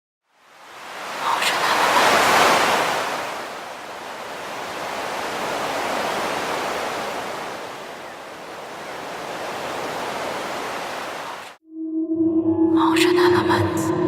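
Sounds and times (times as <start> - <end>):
ocean waves breaking on shore: 0.3 - 11.6.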